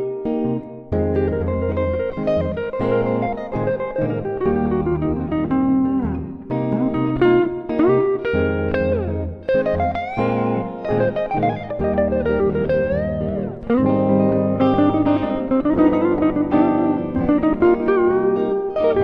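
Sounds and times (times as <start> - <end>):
guitar playing: 0.0 - 19.0
wavering held melody line: 1.0 - 19.0.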